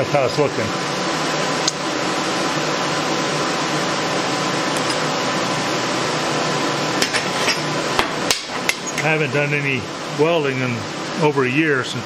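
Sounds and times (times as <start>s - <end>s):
steady fan-like hiss: 0.0s - 12.0s.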